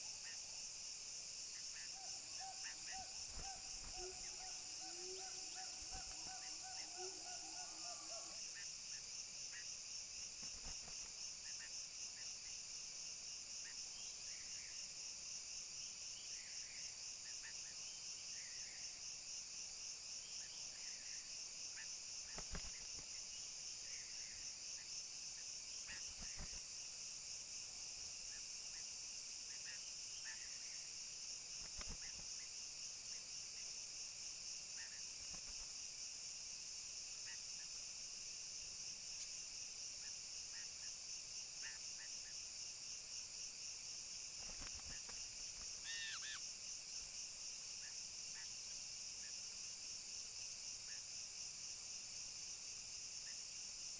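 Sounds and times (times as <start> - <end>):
high insect chorus: 0.0 - 53.9.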